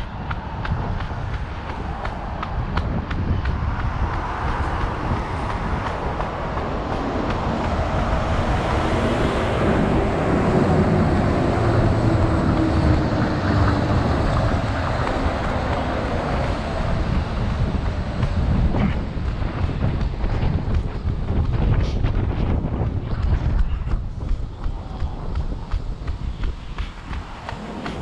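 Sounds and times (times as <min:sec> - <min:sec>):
city traffic rumble: 0:00.0 - 0:28.0
vehicle passing: 0:00.0 - 0:28.0.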